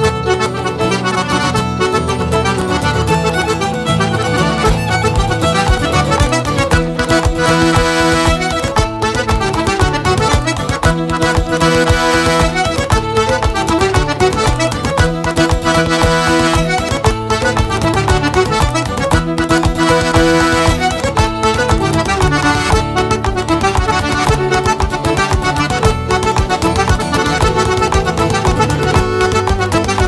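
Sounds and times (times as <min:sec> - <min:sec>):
accordion dance tune: 0:00.0 - 0:30.0
fiddle: 0:00.0 - 0:30.0
foot-tapping beat: 0:00.0 - 0:30.0
guitar accompaniment: 0:00.0 - 0:30.0.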